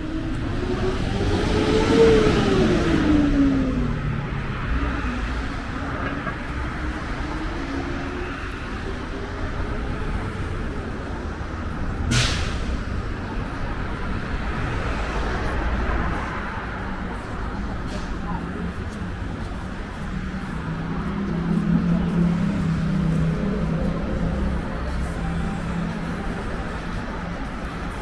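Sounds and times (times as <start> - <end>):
low traffic rumble: 0.0 - 28.0.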